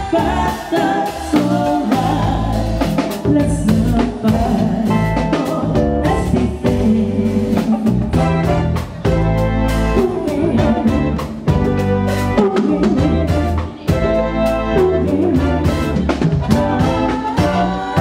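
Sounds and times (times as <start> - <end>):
drum kit and hand drum beat: 0.0 - 18.0
live band playing: 0.0 - 18.0.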